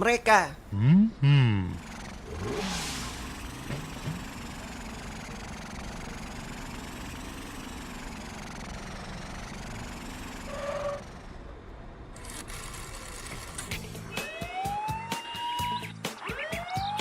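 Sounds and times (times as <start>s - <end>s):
cartoon vehicle engine running: 0.7s - 17.0s.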